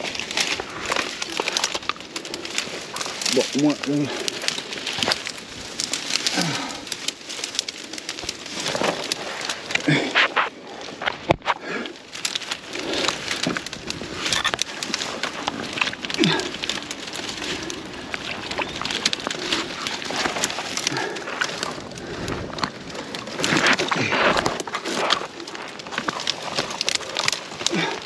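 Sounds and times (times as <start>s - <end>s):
twigs cracking and rustling: 0.0s - 28.0s.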